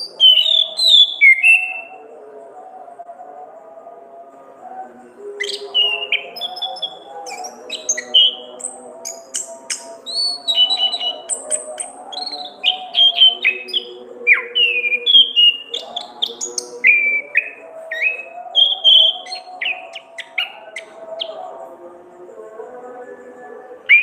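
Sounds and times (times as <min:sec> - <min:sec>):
thrush singing: 0:00.0 - 0:24.0.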